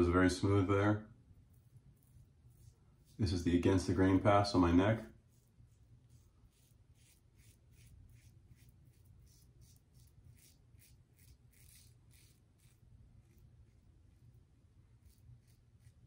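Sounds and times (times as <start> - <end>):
razor scraping stubble: 1.4 - 16.0.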